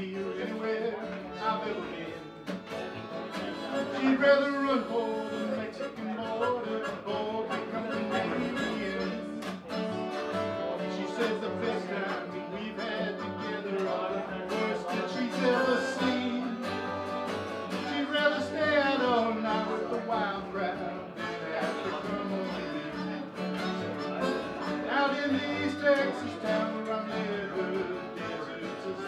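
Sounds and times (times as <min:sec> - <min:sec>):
acoustic guitars: 0:00.0 - 0:29.0
harmonica: 0:00.0 - 0:29.0.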